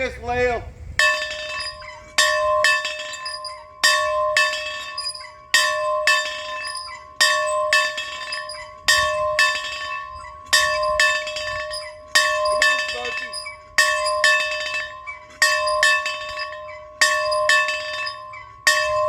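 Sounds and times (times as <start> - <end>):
swinging bell ringing: 1.0 - 19.0.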